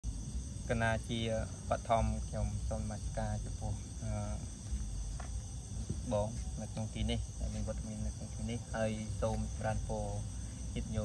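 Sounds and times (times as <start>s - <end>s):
high-pitched insect chorus: 0.0s - 11.0s
person speaking: 0.7s - 4.6s, 5.8s - 11.0s.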